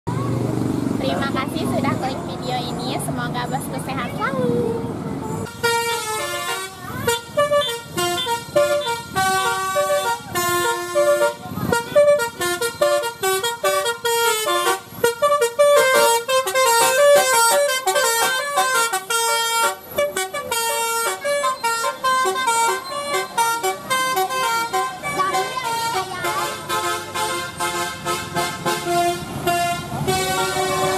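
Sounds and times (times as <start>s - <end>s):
musical air horn playing a tune: 5.4s - 30.9s.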